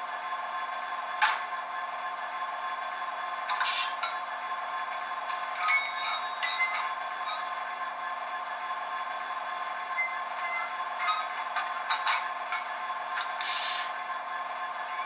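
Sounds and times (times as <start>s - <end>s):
diesel engine idling through small speaker: 0.0s - 15.0s.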